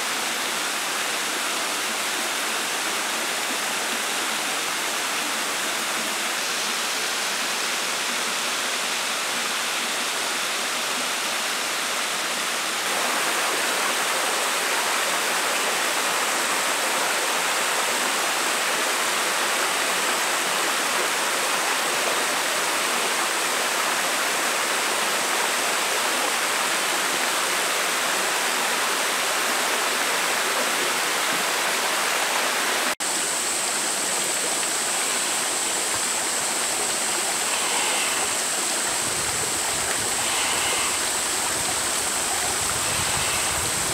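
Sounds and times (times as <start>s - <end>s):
creek water rushing over rocks: 0.0s - 43.9s.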